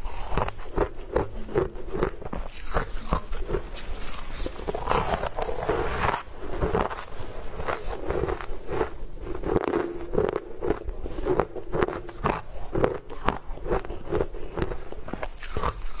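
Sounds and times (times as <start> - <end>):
chewing crunchy ice: 0.0 - 16.0.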